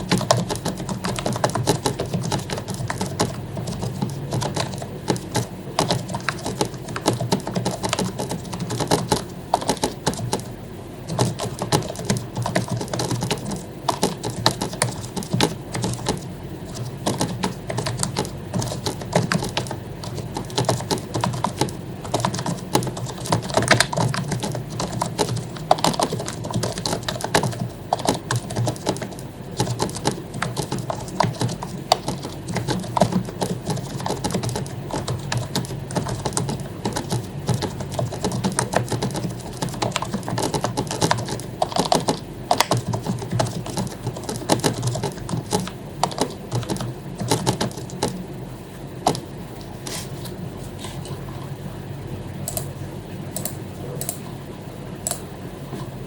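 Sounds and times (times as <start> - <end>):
fast keyboard typing: 0.0 - 48.4, 49.0 - 50.0, 52.5 - 52.7.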